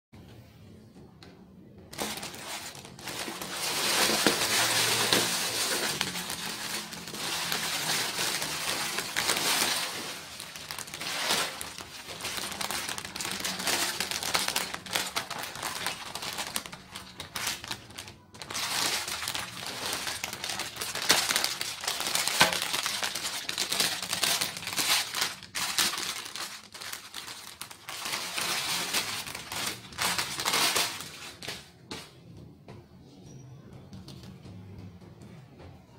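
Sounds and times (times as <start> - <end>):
plastic packaging crinkling: 1.9 - 32.0.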